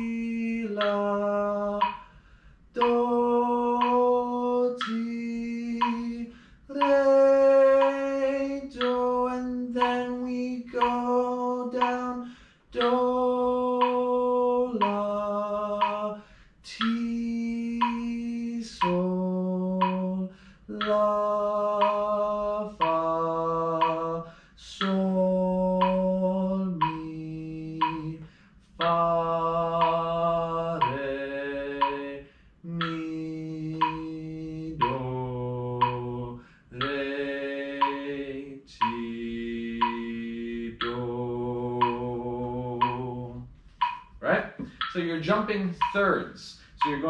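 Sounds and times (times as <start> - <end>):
man singing scale exercise: 0.0 - 47.0.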